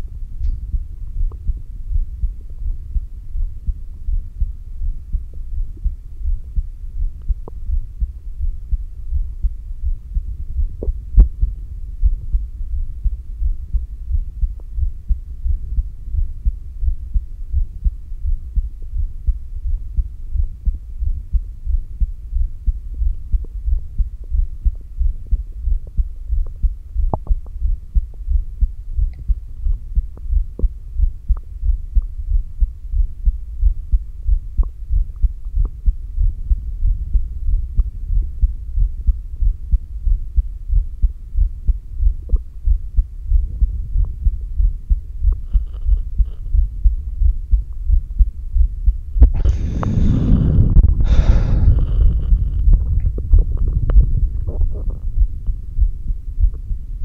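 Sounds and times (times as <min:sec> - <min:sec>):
heartbeat thumps: 0:00.0 - 0:57.0
low hum: 0:00.0 - 0:57.0.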